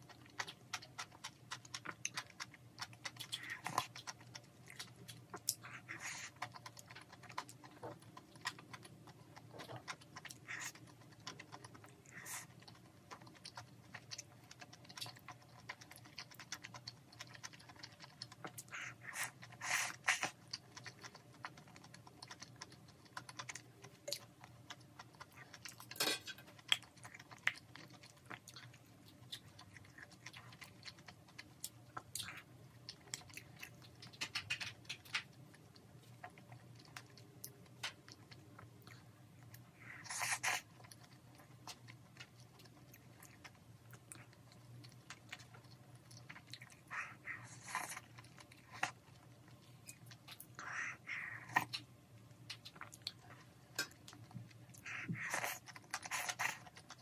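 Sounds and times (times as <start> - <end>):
close-up chewing: 0.0 - 57.0
slurping and smacking: 0.0 - 57.0.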